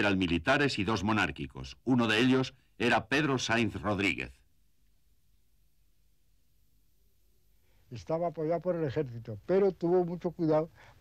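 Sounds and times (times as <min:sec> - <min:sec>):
faint tape hiss: 0:00.0 - 0:11.0.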